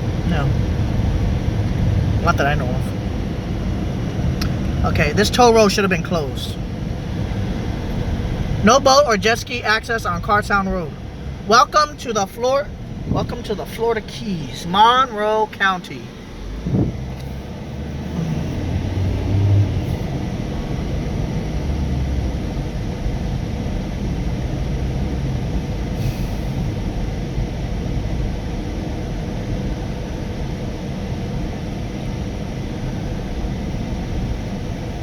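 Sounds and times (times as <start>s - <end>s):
car road rumble from inside: 0.0s - 35.0s.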